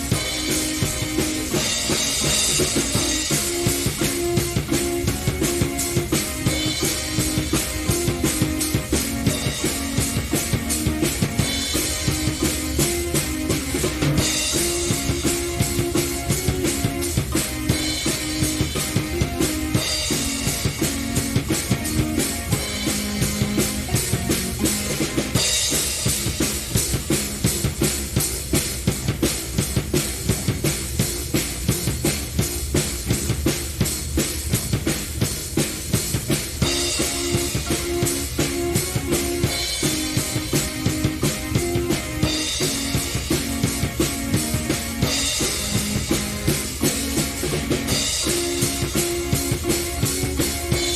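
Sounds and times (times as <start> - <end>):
drum kit beat: 0.0 - 50.9
keyboard chords: 0.0 - 50.9.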